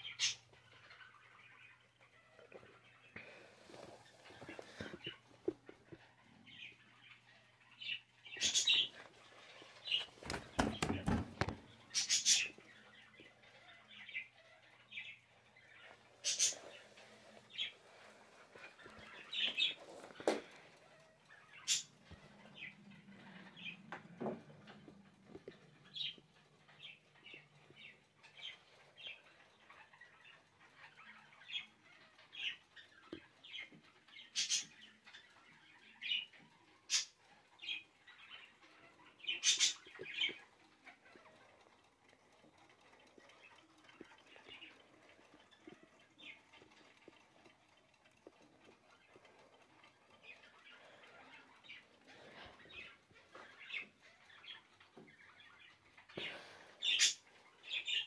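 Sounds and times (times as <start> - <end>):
caged birds chirping: 0.0 - 58.0.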